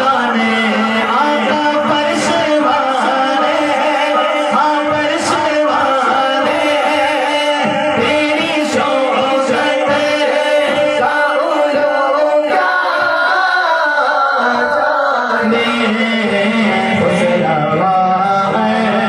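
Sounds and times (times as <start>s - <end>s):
men singing devotional song amplified: 0.0s - 19.0s.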